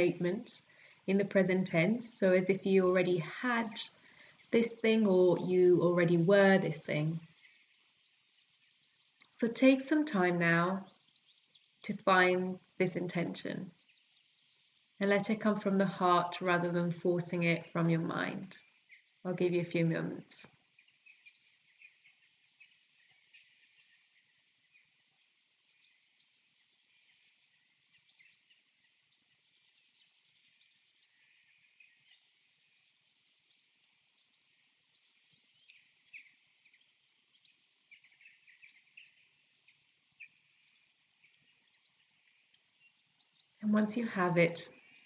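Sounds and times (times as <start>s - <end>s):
bird chirps and tweets: 0.0s - 45.0s
soft hiss: 0.0s - 45.0s.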